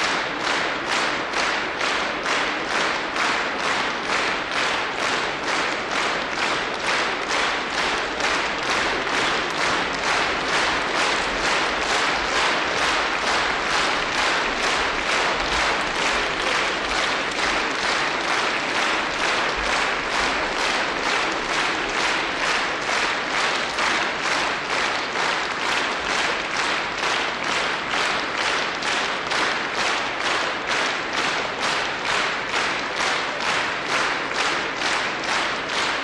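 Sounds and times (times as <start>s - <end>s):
audience clapping in rhythm: 0.0s - 36.0s.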